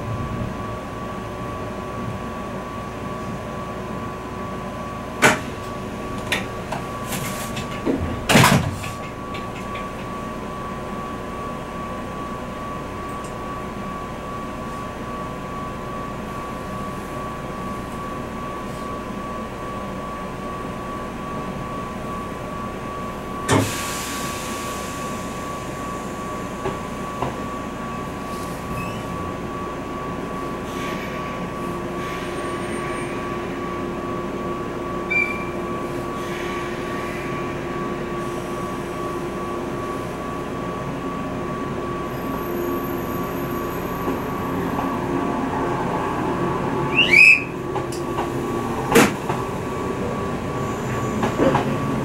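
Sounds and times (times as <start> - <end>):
train car hum: 0.0 - 52.0.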